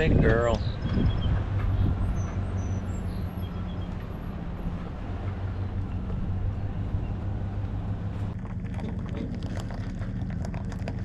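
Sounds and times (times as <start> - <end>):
truck engine idling: 0.8 - 11.0.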